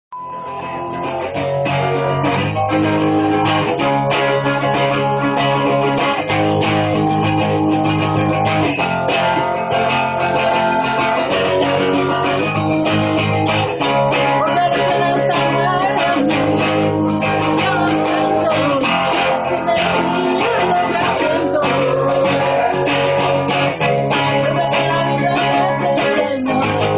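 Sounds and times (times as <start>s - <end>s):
bass line: 0.1s - 26.9s
plucked guitar notes: 0.1s - 26.9s.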